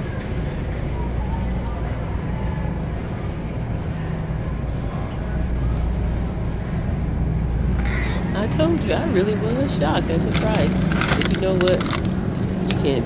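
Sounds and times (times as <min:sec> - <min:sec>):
supermarket background rumble: 0:00.0 - 0:13.0.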